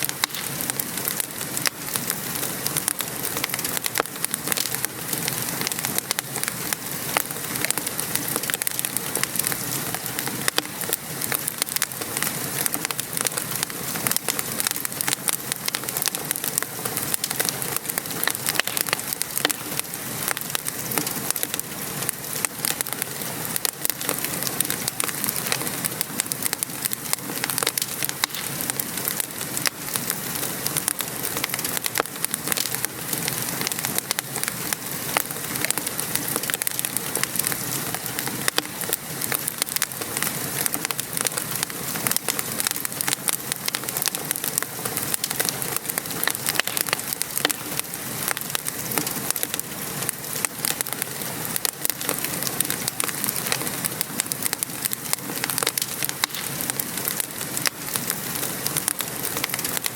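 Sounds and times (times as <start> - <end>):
fireplace fire crackling: 0.0 - 59.9
gentle rain patter: 0.0 - 59.9.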